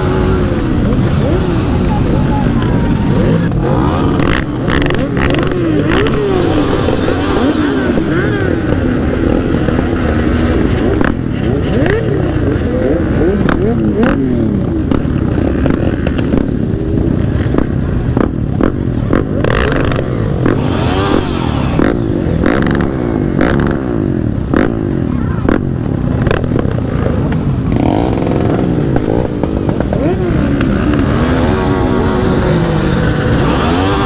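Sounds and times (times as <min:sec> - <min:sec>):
heavy wind noise: 0:00.0 - 0:34.0
motorcycle engine revving: 0:00.0 - 0:34.0.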